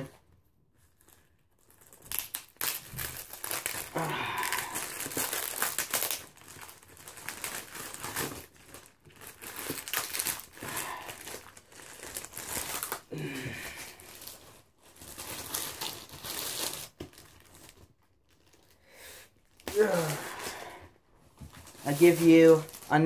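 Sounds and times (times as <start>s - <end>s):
plastic wrapping crinkling: 0.7s - 23.0s.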